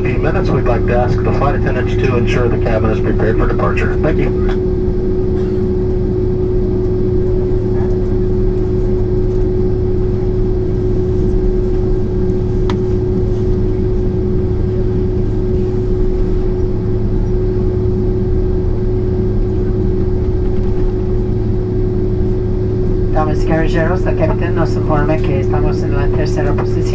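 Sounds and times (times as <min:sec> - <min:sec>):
aircraft cabin engine rumble: 0:00.0 - 0:26.9.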